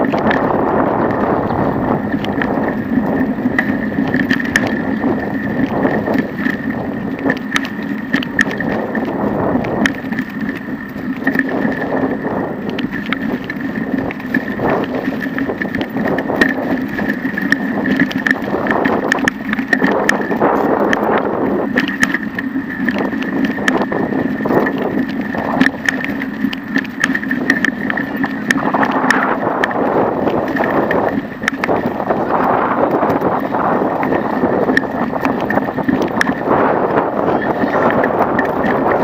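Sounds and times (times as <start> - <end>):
bicycle rolling on concrete: 0.0 - 39.0
steady hum: 0.0 - 39.0
wheel clicks and rattles: 0.0 - 39.0
wind on microphone: 0.0 - 39.0.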